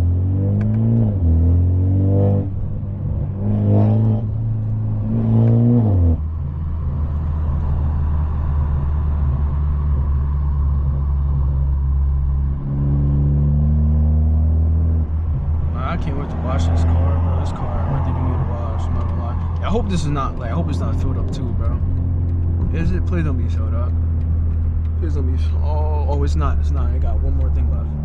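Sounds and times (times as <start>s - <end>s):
car exhaust revving through gears: 0.0s - 28.0s.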